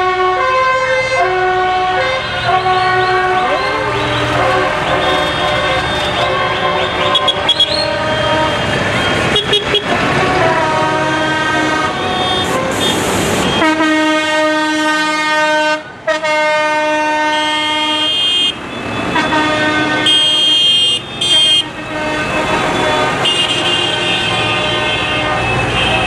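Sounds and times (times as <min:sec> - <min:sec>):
air horns honking: 0:00.0 - 0:26.0.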